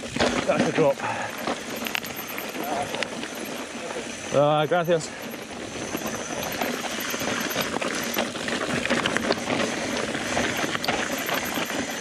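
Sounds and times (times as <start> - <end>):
mountain bike rattling: 0.0 - 12.0
wheels knocking on rocks: 0.0 - 12.0.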